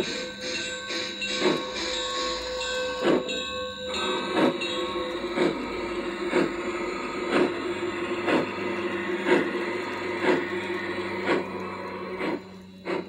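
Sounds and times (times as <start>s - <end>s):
model locomotive hum: 0.0s - 13.0s.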